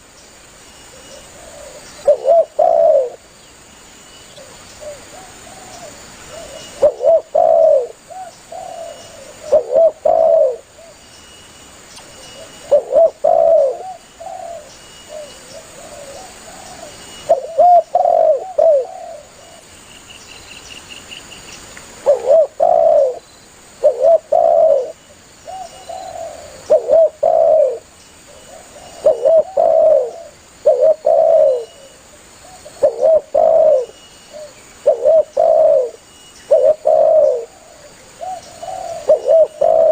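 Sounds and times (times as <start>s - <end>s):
dove cooing: 0.9s - 3.2s, 4.4s - 11.0s, 12.1s - 19.7s, 22.0s - 23.2s, 23.8s - 39.9s.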